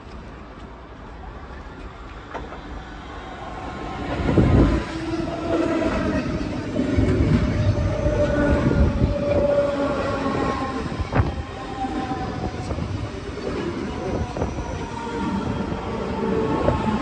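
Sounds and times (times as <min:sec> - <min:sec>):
train wheels rumbling: 0:00.0 - 0:17.0
train motor whine: 0:02.4 - 0:17.0.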